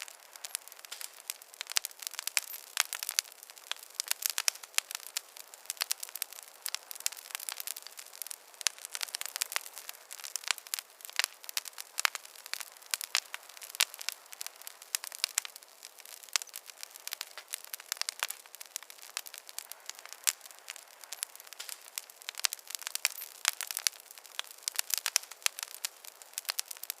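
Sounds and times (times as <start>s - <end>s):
faint hiss: 0.0s - 27.0s
wood fire crackling: 0.0s - 27.0s.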